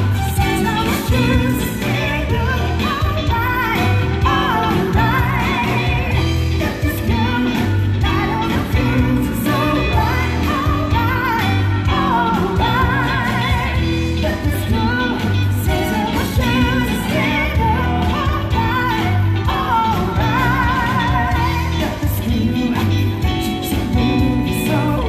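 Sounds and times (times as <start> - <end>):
pop song with singer: 0.0 - 25.0.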